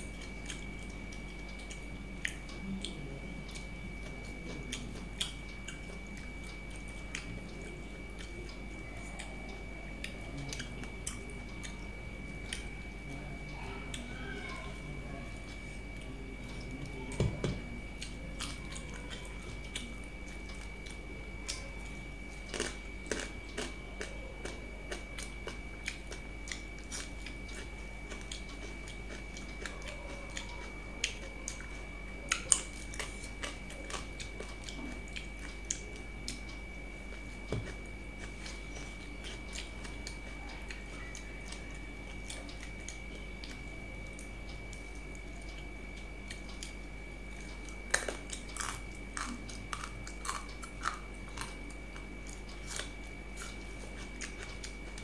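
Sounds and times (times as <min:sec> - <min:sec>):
person chewing with mouth smacks: 0:00.0 - 0:14.1, 0:15.3 - 0:55.0.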